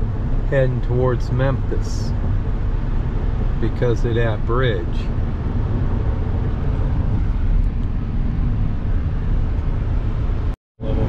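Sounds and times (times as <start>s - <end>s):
road and engine drone in cab: 0.0s - 11.0s.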